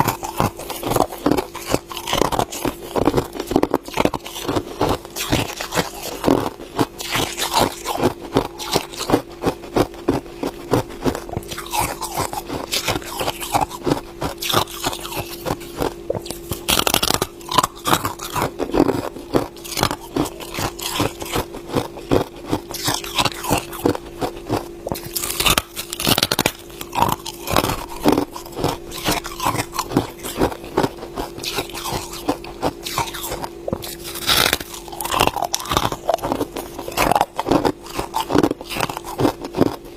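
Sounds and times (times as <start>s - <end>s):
faint steady hum: 0.0s - 39.9s
ice crunching while chewed: 0.0s - 39.9s.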